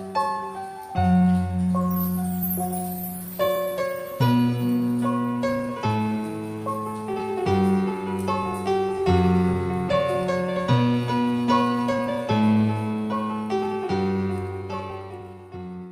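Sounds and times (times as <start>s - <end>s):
slow piano music: 0.0s - 15.9s.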